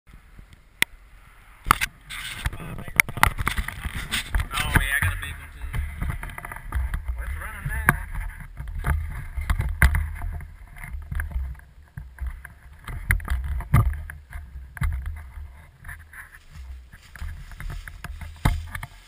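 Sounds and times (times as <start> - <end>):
sharp knocks and thumps: 1.7 - 19.0.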